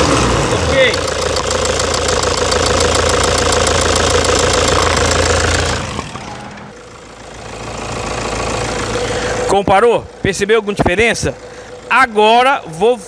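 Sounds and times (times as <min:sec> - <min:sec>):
diesel engine idling with knock: 0:00.0 - 0:12.6.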